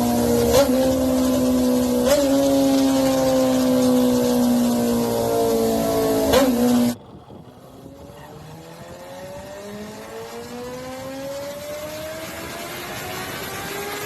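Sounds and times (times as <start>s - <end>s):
engine accelerating: 0.0s - 14.0s
motorcycle engine running loudly: 0.0s - 14.0s.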